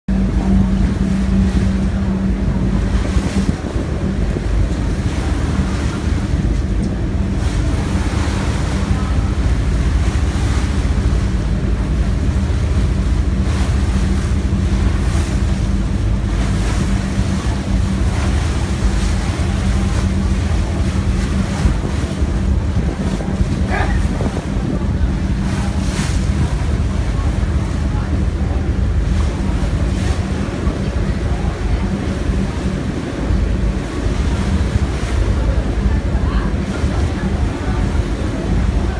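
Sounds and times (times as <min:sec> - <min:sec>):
ferry engine droning: 0:00.1 - 0:38.9
rushing water: 0:00.1 - 0:38.9
wind buffeting microphone: 0:00.1 - 0:38.9.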